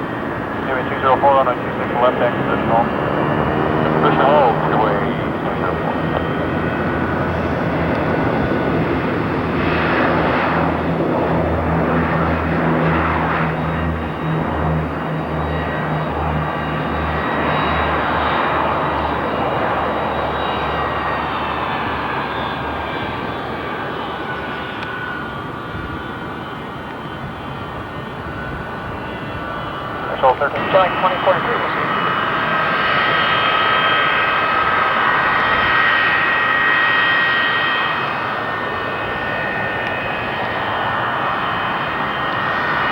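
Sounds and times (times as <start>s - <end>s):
airliner engines roaring: 0.0s - 42.9s.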